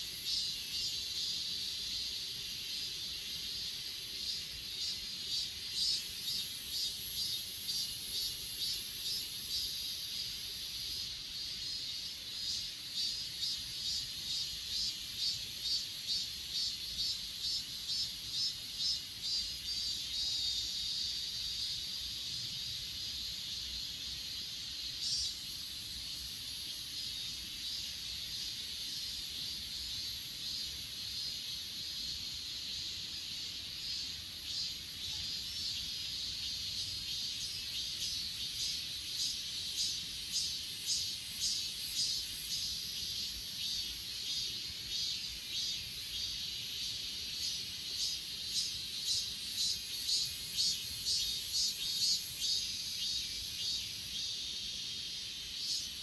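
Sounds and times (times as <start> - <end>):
crickets trilling: 0.0 - 56.0
pulsing insect chirp: 0.0 - 56.0.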